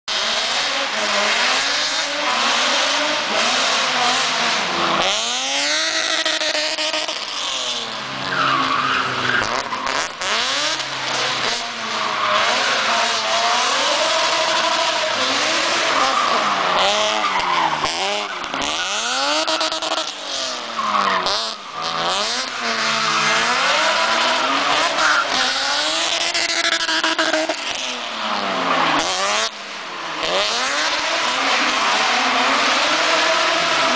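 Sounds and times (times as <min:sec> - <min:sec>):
car engine revving hard: 0:00.1 - 0:33.9.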